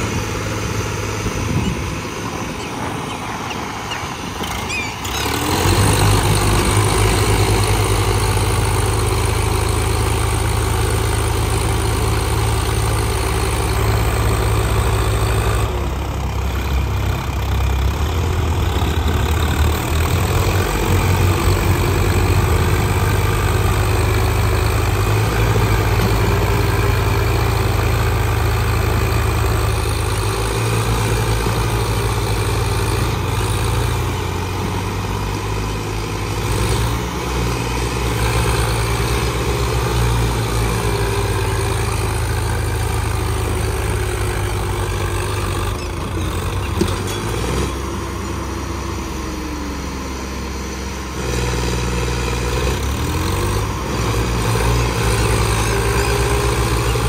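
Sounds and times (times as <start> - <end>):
diesel tractor engines running: 0.0 - 57.0.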